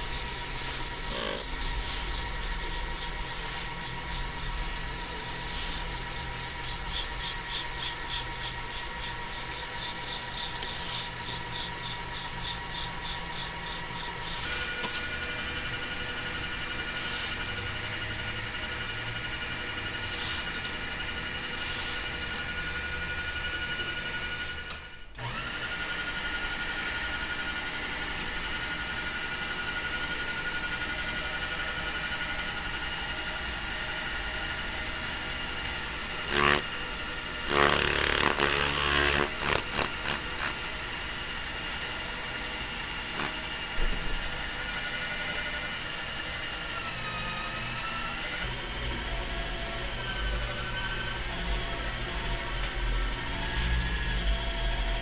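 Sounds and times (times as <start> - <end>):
small power tool motor running: 0.0 - 55.0.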